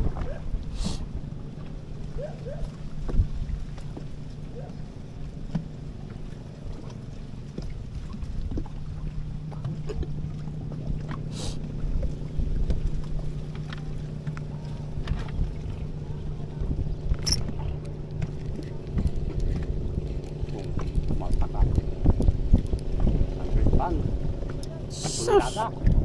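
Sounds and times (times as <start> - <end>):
boat engine humming: 0.0 - 26.0
wind rumbling on microphone: 0.0 - 26.0.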